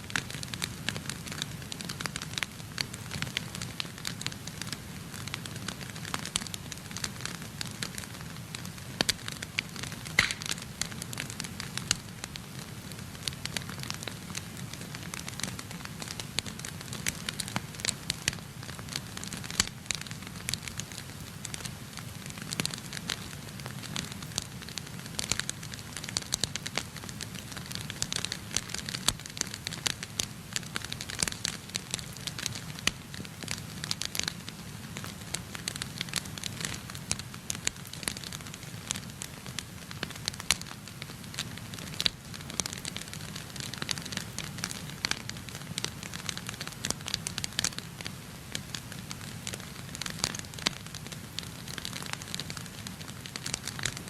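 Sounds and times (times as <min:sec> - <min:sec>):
low fire rumble: 0:00.1 - 0:54.0
wood fire crackling and popping: 0:00.1 - 0:54.0.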